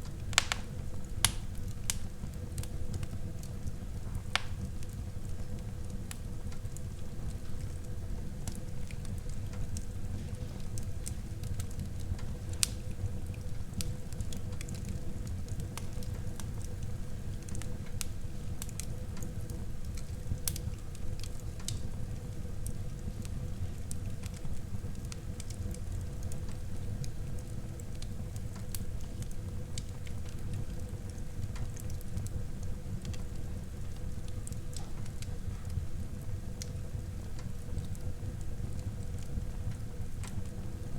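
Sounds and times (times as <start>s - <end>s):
burning wood crackling and popping: 0.0s - 40.9s
low rumble of flames: 0.0s - 40.9s.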